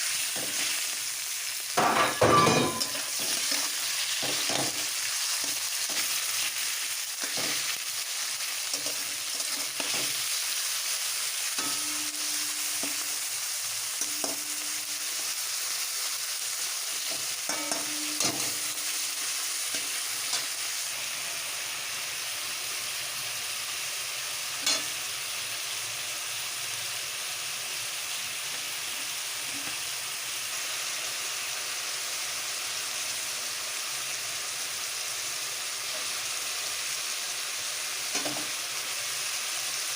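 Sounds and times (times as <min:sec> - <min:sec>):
food sizzling in pan: 0:00.0 - 0:39.9.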